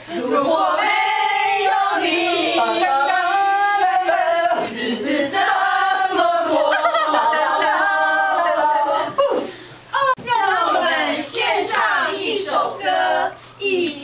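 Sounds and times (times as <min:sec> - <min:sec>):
women's choir chanting: 0:00.1 - 0:09.2, 0:10.2 - 0:14.0.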